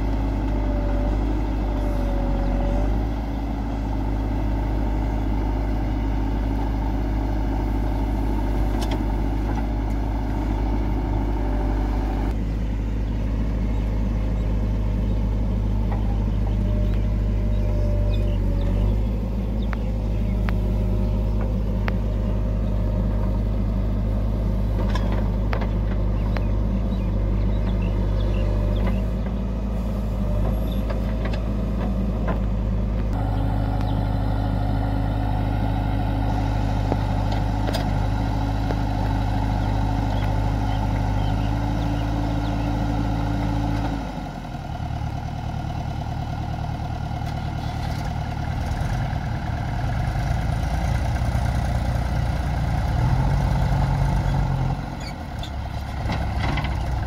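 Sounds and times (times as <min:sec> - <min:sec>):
diesel engine running under load: 0:00.0 - 0:57.0
tractor engine running: 0:00.0 - 0:57.0.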